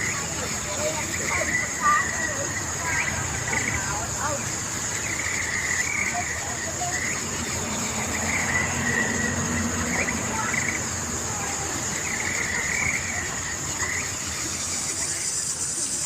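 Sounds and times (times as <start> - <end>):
insects shrilling: 0.0 - 16.0.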